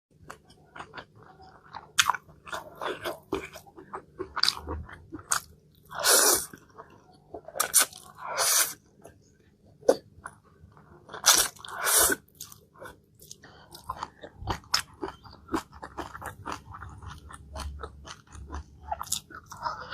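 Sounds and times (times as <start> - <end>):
person chewing and crunching food: 0.1 - 19.9.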